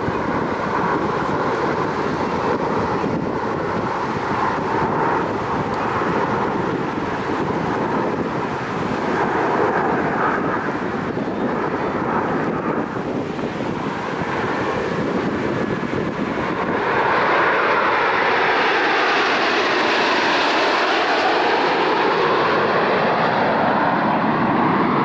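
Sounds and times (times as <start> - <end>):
jets flying past: 0.0 - 25.0.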